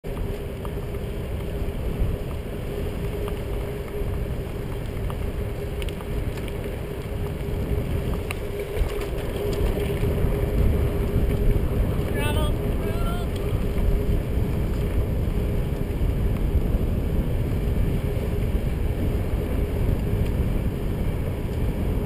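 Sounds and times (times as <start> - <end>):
road rumble: 0.0 - 22.0
wind on microphone: 0.1 - 22.0.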